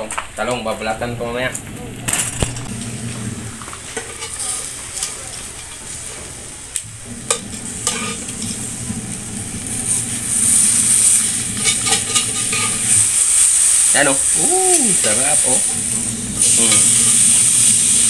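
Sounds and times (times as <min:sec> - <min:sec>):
fish sizzling on a grill pan: 0:02.1 - 0:18.0.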